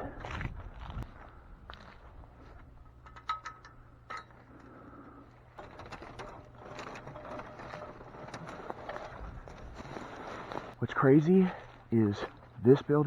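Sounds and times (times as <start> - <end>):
footsteps outdoors: 0.0 - 13.0.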